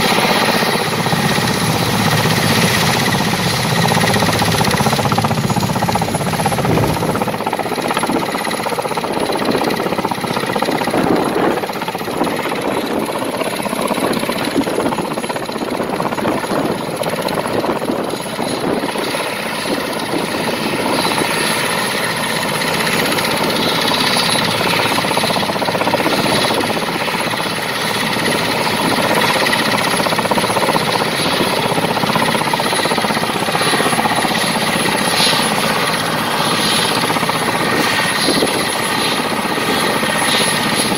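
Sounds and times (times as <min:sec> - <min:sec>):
helicopter rotor and engine noise: 0:00.0 - 0:40.9
high turbine whine: 0:00.0 - 0:40.9.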